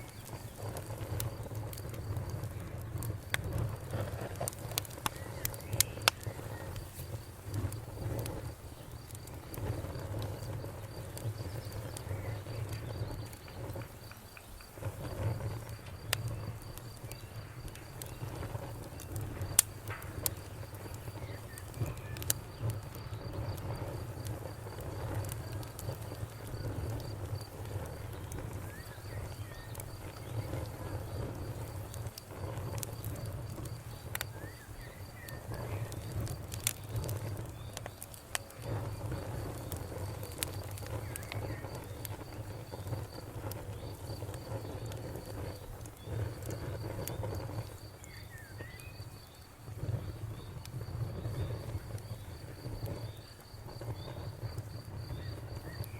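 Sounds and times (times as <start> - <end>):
campfire crackling and popping: 0.0 - 55.9
insect chirping: 0.0 - 55.9.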